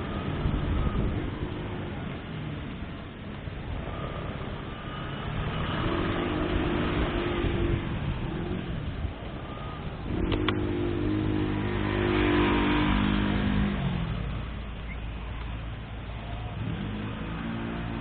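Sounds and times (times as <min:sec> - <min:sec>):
motorcycle engine accelerating: 0:00.0 - 0:14.5
tyres hissing on wet road: 0:00.0 - 0:18.0.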